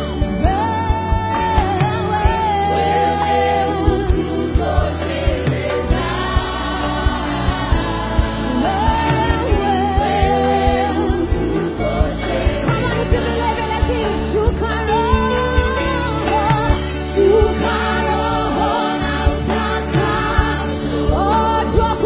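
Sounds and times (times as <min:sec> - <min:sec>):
bass guitar: 0:00.0 - 0:22.0
drums: 0:00.0 - 0:22.0
woman singing: 0:00.2 - 0:05.8, 0:08.5 - 0:22.0
backing singers: 0:00.4 - 0:22.0.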